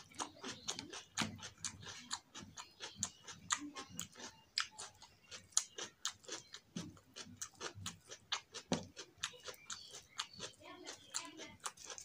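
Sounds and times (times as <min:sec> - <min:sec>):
chewing and lip smacking: 0:00.0 - 0:12.0.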